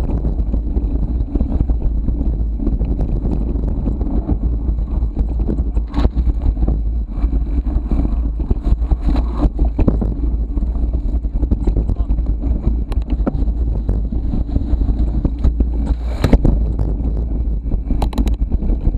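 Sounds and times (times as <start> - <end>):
bike rattling and knocking: 0.0 - 18.9
bike tyre noise: 0.0 - 18.9
wind rumbling on microphone: 0.0 - 18.9.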